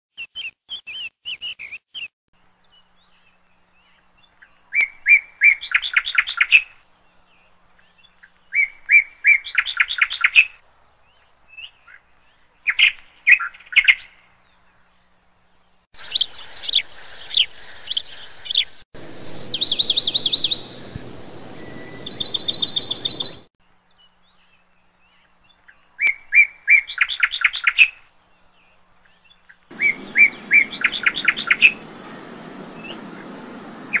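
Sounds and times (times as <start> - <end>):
bird chirps and trills: 0.2 - 34.0.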